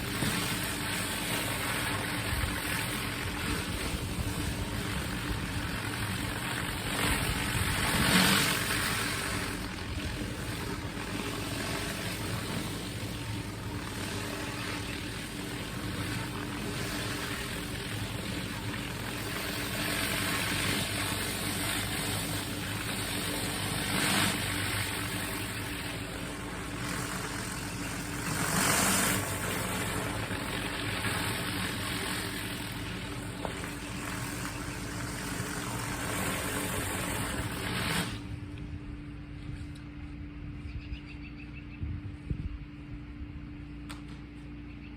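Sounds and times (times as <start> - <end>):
water spray hissing: 0.0 - 38.2
pressure washer engine running: 0.0 - 40.6.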